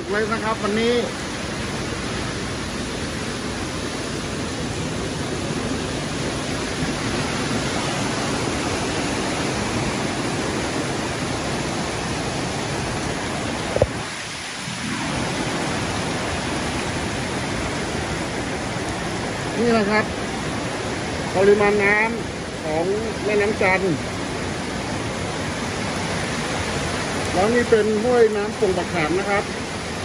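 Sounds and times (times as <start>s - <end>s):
fast-flowing river rushing: 0.0s - 30.0s
rain: 0.0s - 30.0s.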